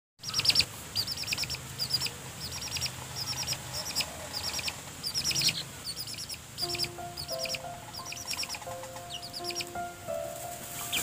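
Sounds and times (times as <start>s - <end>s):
birds chirping: 0.2s - 11.0s.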